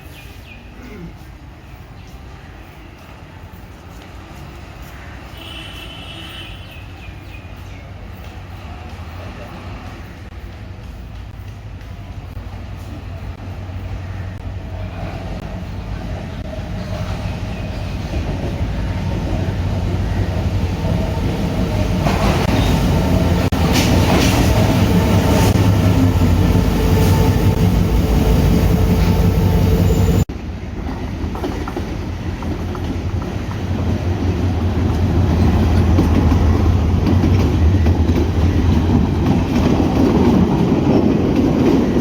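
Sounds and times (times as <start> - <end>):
diesel locomotive engine hum: 7.4 - 42.0.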